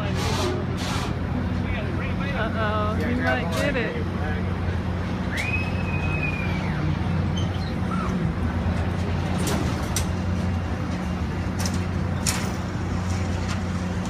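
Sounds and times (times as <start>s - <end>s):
low machine hum: 0.0s - 14.0s
outdoor noise: 0.0s - 14.0s.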